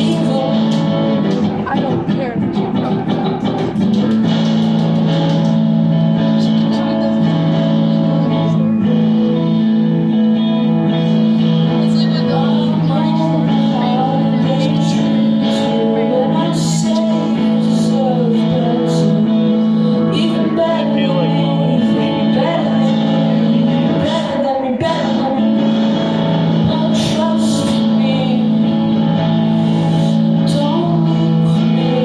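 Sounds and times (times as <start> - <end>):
guitar: 0.0 - 32.0
person singing: 0.0 - 32.0.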